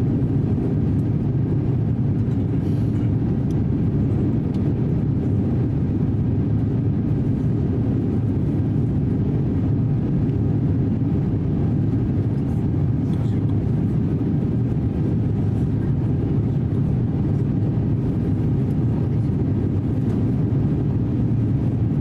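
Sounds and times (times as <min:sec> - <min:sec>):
airflow over fuselage: 0:00.0 - 0:22.0
airplane cabin engine drone: 0:00.0 - 0:22.0.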